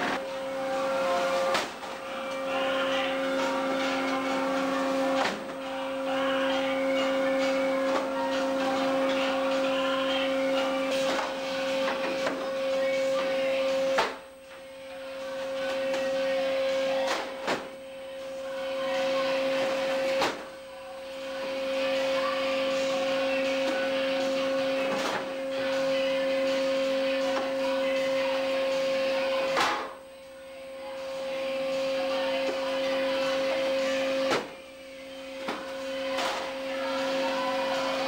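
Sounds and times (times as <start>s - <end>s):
machinery drone and hum: 0.0s - 38.0s.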